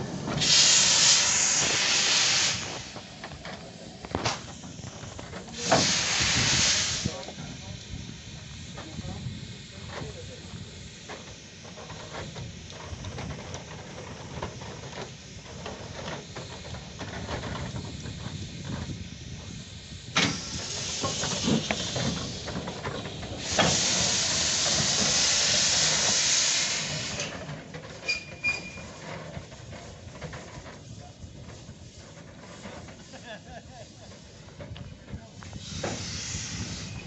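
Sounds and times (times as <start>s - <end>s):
locomotive engine rumbling: 0.0s - 37.0s
steam hissing: 0.0s - 37.0s.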